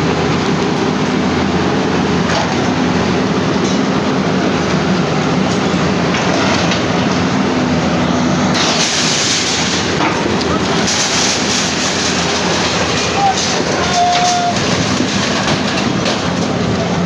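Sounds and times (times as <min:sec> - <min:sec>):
heavy machinery engine drone: 0:00.0 - 0:17.0.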